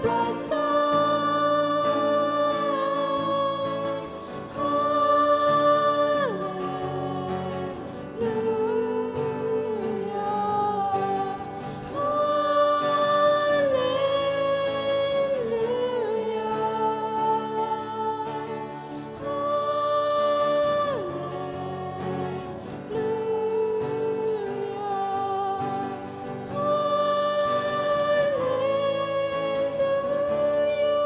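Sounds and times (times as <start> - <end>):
person singing worship song: 0.0 - 31.0.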